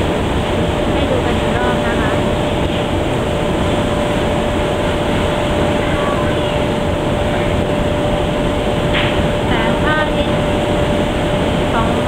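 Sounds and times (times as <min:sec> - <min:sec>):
mid-pitched hum: 0:00.0 - 0:12.0
ship engine drone: 0:00.0 - 0:12.0
water rushing past hull: 0:00.0 - 0:12.0.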